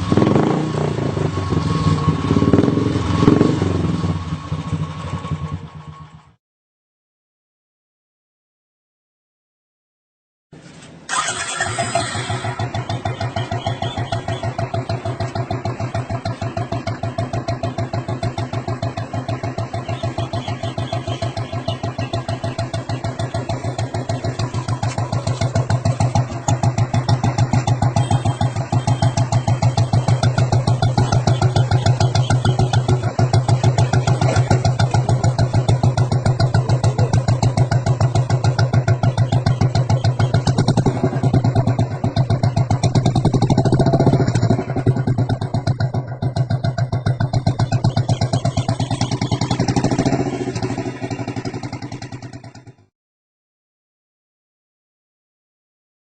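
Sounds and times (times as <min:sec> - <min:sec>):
motorcycle engine exhaust beats: 0:00.0 - 0:06.4, 0:11.1 - 0:52.9.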